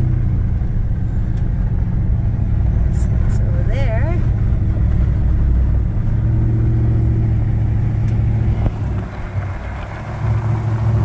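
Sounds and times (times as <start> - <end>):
vehicle driving on gravel: 0.0 - 11.0.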